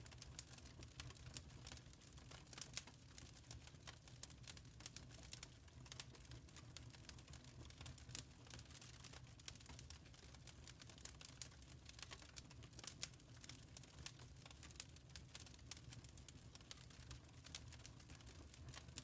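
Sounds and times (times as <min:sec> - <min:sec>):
faint wood fire crackling: 0:00.0 - 0:19.0.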